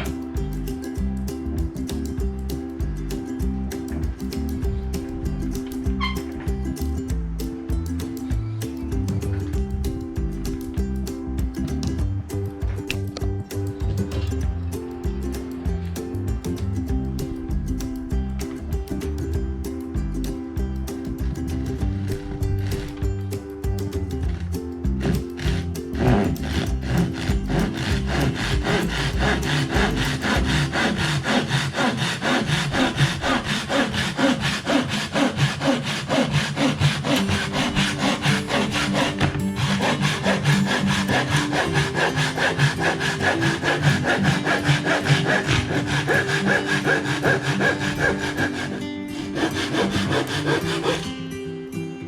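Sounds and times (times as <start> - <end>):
hand saw cutting wood: 0.0 - 14.7, 21.0 - 23.3, 24.1 - 51.2.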